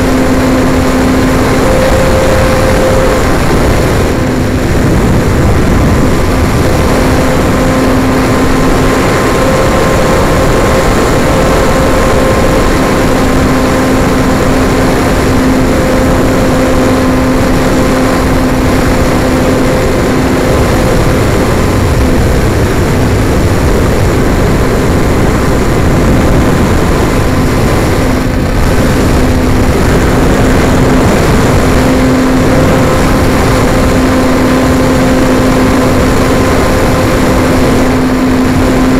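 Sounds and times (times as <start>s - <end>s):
model airplane motor and propeller: 0.0s - 38.9s
wind rush on microphone: 0.0s - 38.9s.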